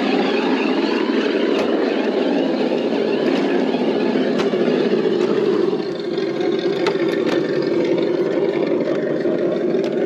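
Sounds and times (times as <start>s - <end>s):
electronic engine idle rumble: 0.0s - 10.0s.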